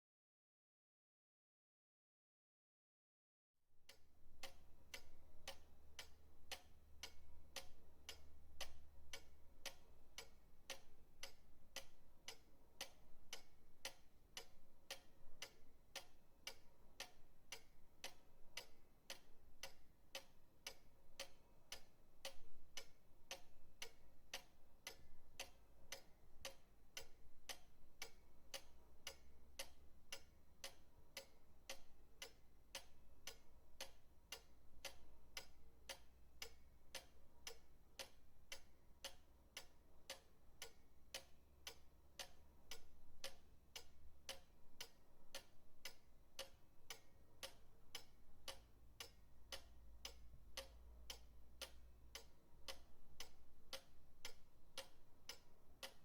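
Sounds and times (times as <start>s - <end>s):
pendulum clock ticking: 3.8s - 56.0s.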